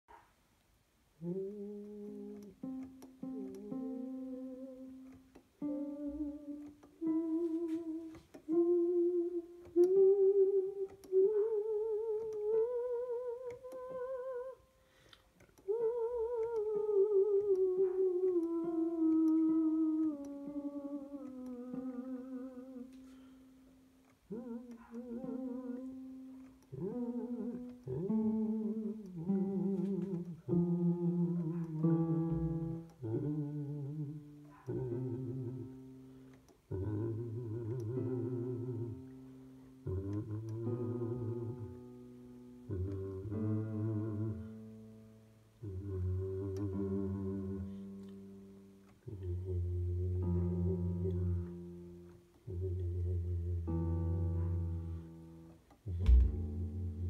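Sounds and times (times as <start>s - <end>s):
electronic keyboard single notes: 1.2s - 14.7s, 15.4s - 57.0s
person humming: 1.2s - 14.7s, 15.4s - 23.5s, 24.2s - 44.8s, 45.6s - 57.0s.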